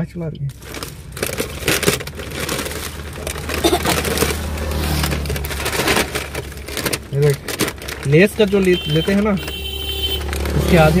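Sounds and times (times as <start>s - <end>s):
plastic packets crinkling: 0.5s - 11.0s.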